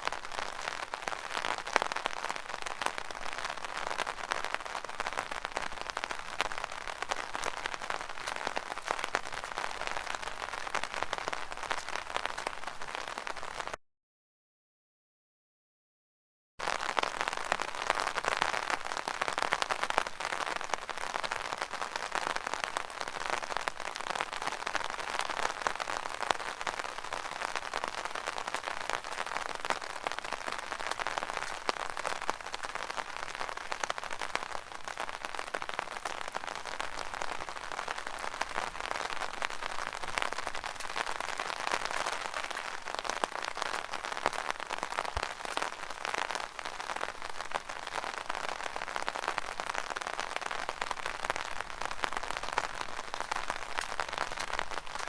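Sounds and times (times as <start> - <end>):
rain pattering on an umbrella: 0.0 - 13.8, 16.6 - 55.0.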